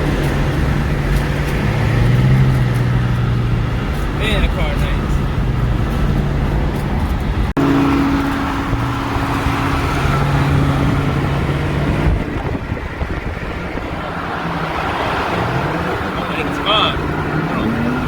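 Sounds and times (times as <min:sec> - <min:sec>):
car exhaust droning: 0:00.0 - 0:18.0
road noise: 0:00.0 - 0:18.0
wind noise: 0:00.0 - 0:18.0.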